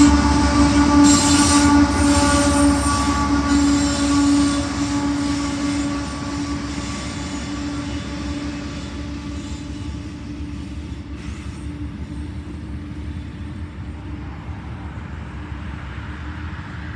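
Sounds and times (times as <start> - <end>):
freight train rumbling: 0.0 - 16.9
steady whine: 0.0 - 16.9.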